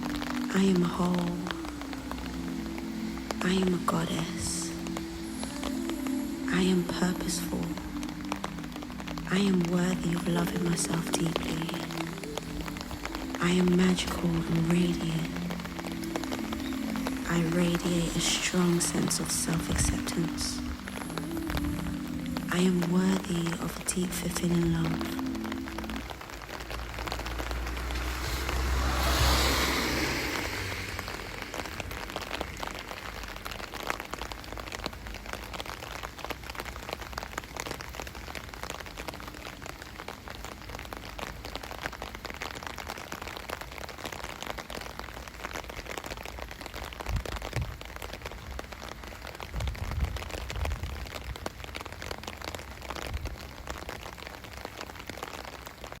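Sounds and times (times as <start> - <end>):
raindrops ticking: 0.0 - 56.0
steady rain: 0.0 - 56.0.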